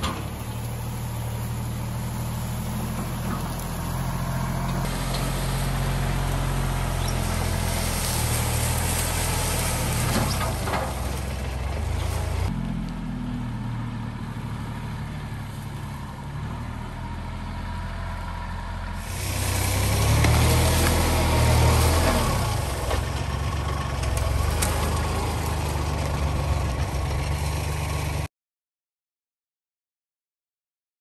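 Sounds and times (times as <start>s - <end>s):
tractor diesel engine running: 0.0s - 28.3s
tractor driving through brush: 0.0s - 28.3s.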